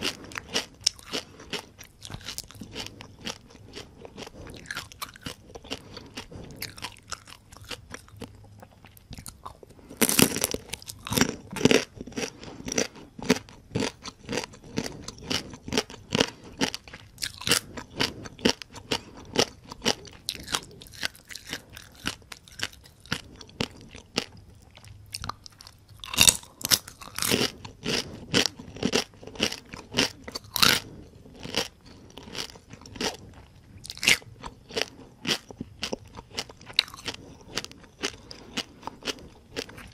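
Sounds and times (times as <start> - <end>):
crunchy shell chewing: 0.0 - 39.9.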